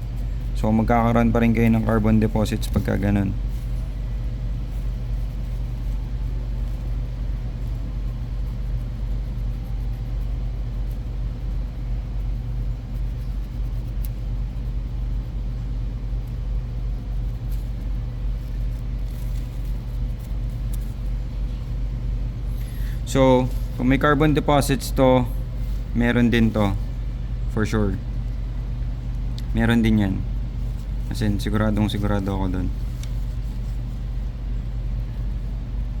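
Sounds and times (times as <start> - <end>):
low rumbling room hum: 0.0 - 36.0.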